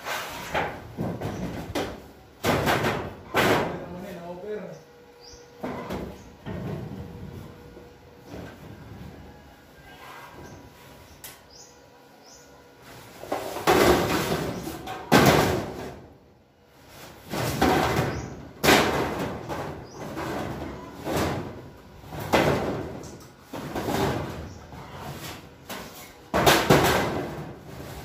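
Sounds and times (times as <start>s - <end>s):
metal roof rumbling and banging: 0.0s - 4.4s, 5.4s - 11.0s, 12.9s - 28.0s.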